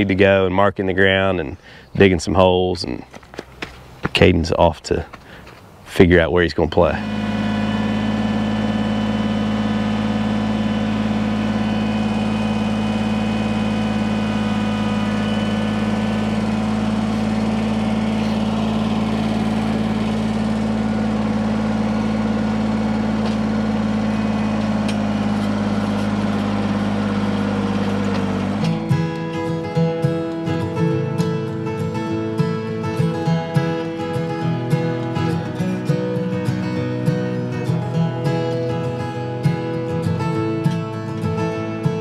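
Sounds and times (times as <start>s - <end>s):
engine humming steadily: 6.6s - 42.0s.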